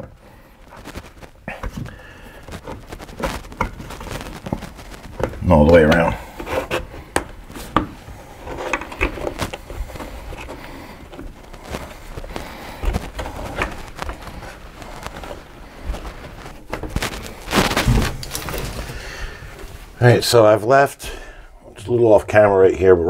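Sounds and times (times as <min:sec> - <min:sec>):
rubbing sounds: 0:00.0 - 0:20.5.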